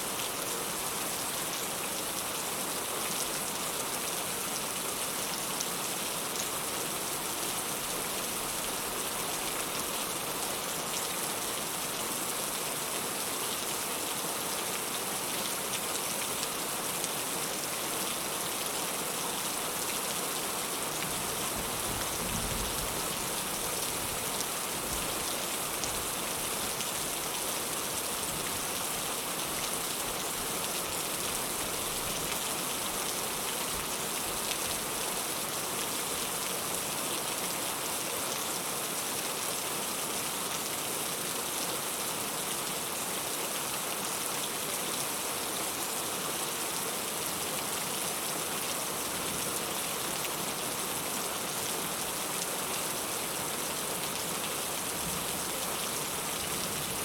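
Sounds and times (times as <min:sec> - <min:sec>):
heavy rain falling: 0:00.3 - 0:43.3, 0:44.0 - 0:57.0.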